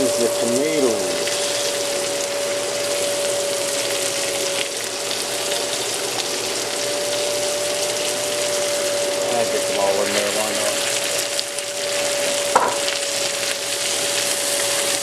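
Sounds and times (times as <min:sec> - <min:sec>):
steady hum: 0:00.0 - 0:05.7, 0:06.4 - 0:13.6
vegetables sizzling in a pan: 0:00.0 - 0:15.0.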